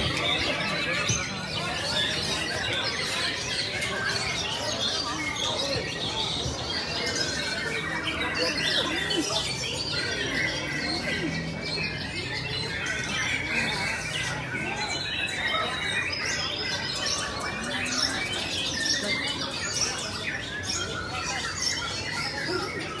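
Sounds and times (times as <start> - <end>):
chorus of birds calling: 0.0 - 23.0.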